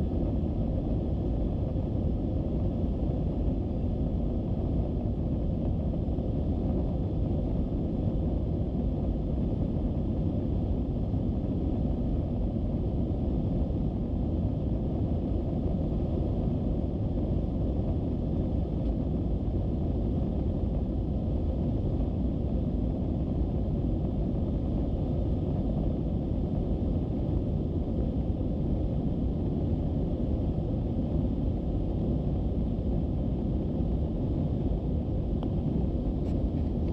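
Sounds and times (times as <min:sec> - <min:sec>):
airliner engine rumble: 0:00.0 - 0:36.9
faint steady hum: 0:00.0 - 0:36.9.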